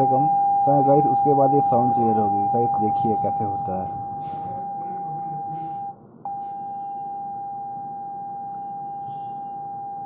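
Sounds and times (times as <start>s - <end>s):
steady loudspeaker beep tone: 0.0s - 10.0s.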